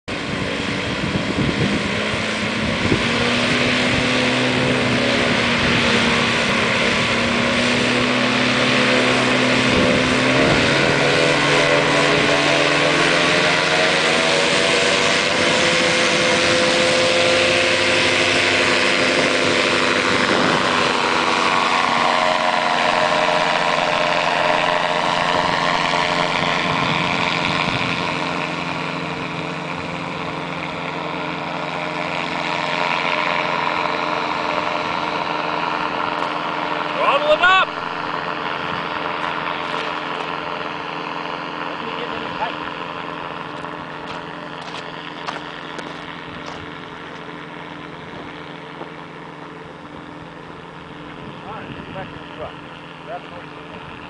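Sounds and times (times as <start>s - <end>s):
engine and propeller running hard: 0.0s - 54.0s.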